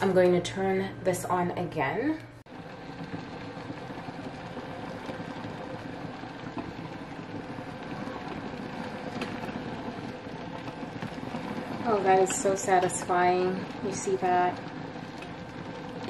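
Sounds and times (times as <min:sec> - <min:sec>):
garment steamer buzzing hum: 0:00.0 - 0:16.0.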